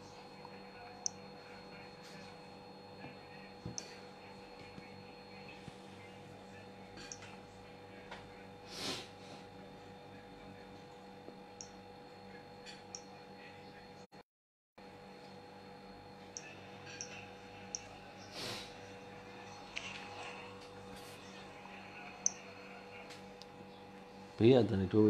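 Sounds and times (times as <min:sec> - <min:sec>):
faint electrical hum: 0:00.0 - 0:14.1, 0:14.8 - 0:25.0.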